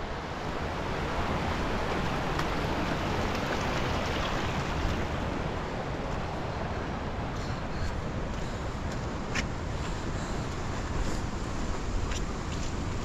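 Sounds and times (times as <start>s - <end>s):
rain: 0.0s - 13.0s
wind: 0.0s - 13.0s.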